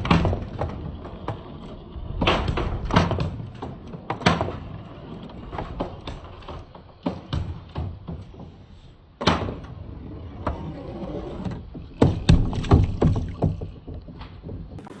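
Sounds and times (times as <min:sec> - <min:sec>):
balls clacking and knocking: 0:00.0 - 0:15.0
balls rolling on wooden track: 0:00.0 - 0:15.0.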